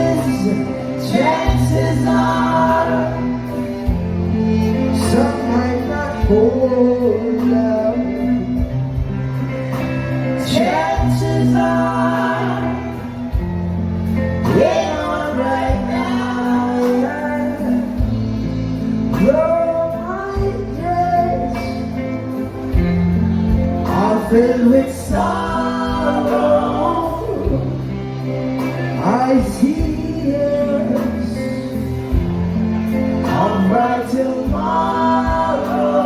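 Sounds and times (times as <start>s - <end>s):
bass line: 0.0s - 36.0s.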